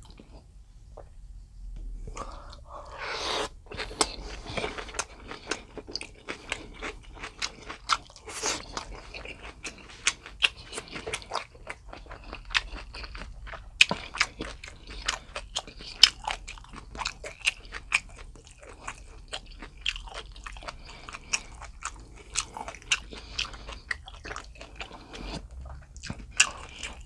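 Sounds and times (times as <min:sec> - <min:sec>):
person chewing food: 0:00.0 - 0:00.5, 0:02.0 - 0:27.0.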